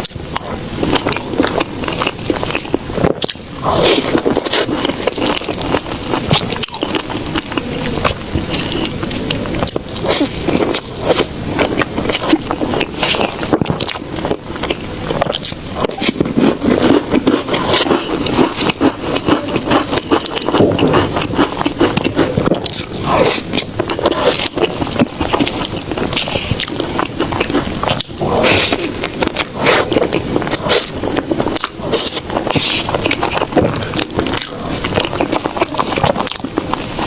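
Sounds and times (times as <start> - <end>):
close chewing with clicks: 0.0 - 37.0.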